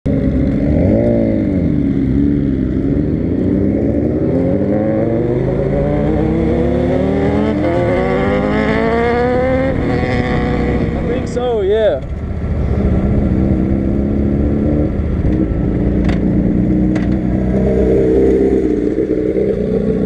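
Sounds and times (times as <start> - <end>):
motorcycle engine revving: 0.1 - 20.0.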